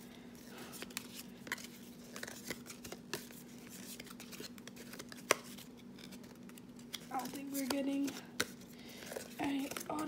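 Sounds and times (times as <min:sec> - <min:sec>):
cards flicking and rustling: 0:00.4 - 0:10.0.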